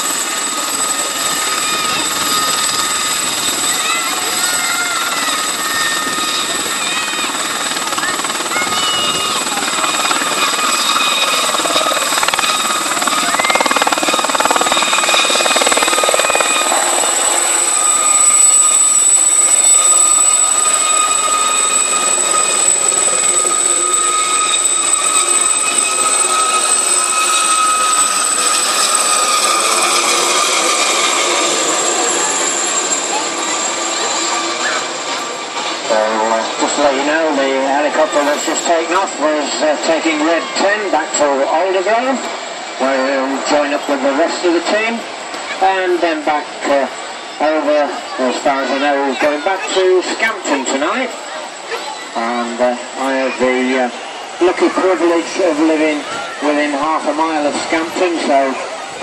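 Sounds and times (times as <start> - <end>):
helicopter rotors rushing: 0.0 - 59.0
helicopter turbine whine: 0.0 - 59.0.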